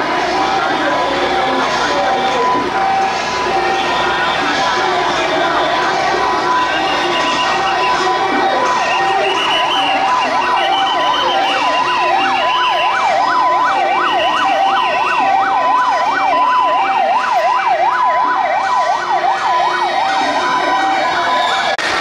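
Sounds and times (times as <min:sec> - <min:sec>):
two-tone hi-lo siren wail: 0:00.0 - 0:21.8
fast yelp siren: 0:00.4 - 0:21.8.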